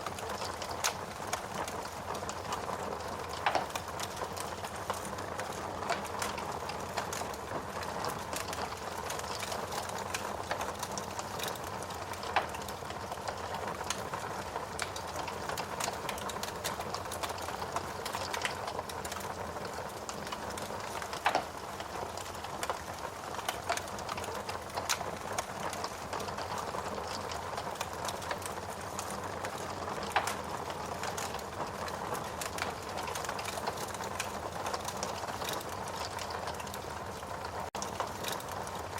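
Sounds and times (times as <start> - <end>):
fire crackling in fireplace: 0.0 - 38.9.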